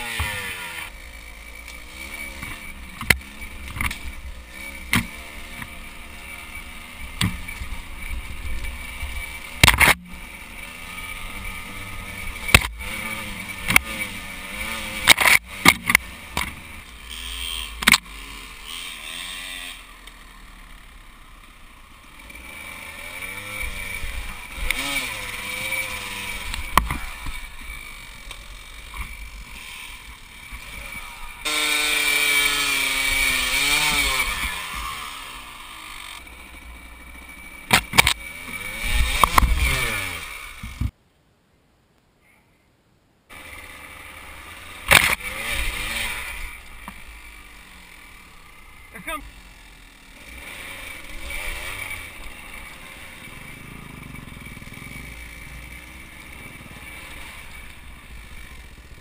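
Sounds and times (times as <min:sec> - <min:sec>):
dirt bike engine revving: 0:00.0 - 0:40.9, 0:43.3 - 0:59.0.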